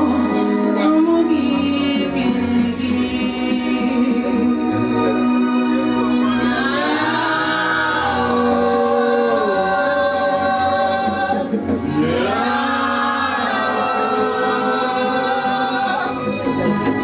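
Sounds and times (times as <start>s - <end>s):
choir singing a hymn: 0.0s - 16.5s.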